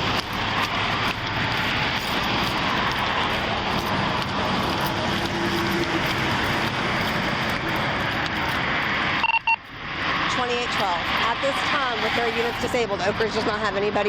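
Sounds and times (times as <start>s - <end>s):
freeway traffic rushing: 0.0s - 14.0s.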